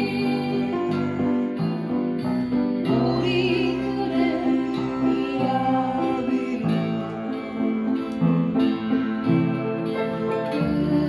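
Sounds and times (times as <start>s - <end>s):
upright piano chords and melody: 0.0s - 11.0s.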